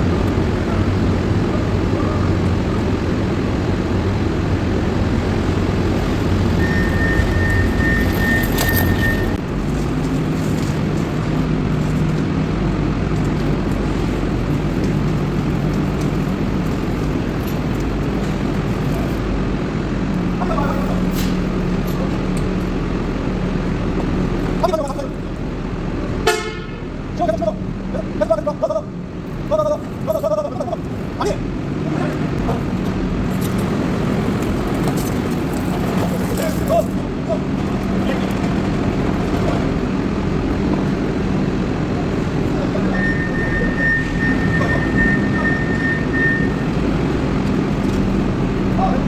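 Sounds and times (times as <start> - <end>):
large diesel engine running: 0.0 - 49.0
road noise: 0.0 - 49.0.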